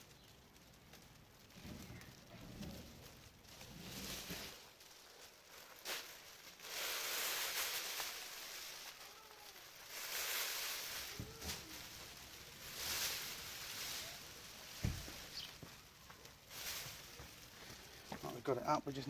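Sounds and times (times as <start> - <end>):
foil sheet crinkling: 0.0 - 19.0.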